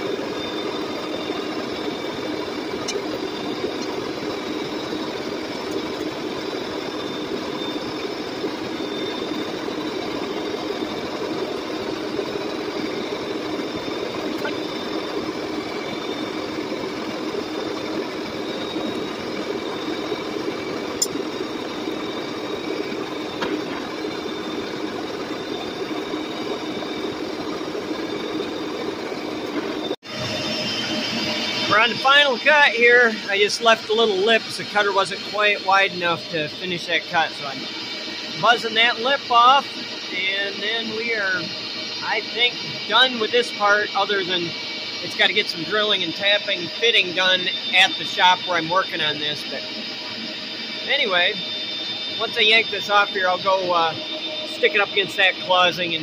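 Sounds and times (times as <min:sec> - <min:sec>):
boring mill milling metal: 0:00.0 - 0:56.0
faint high whining tones: 0:00.0 - 0:56.0.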